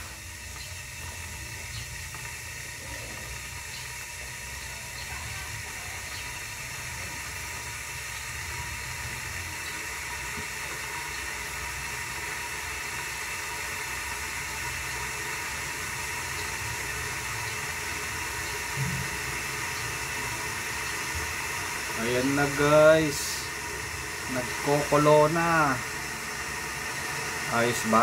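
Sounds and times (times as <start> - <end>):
electric kettle boiling: 0.0 - 28.0.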